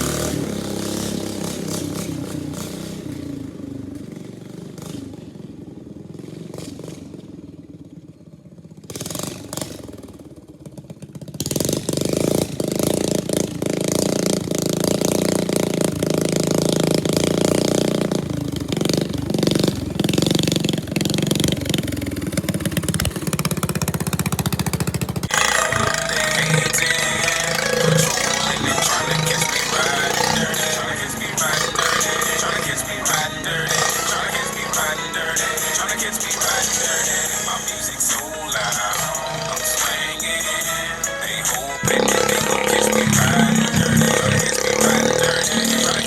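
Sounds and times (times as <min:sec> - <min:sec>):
lawn tractor engine running: 0:00.0 - 0:46.0.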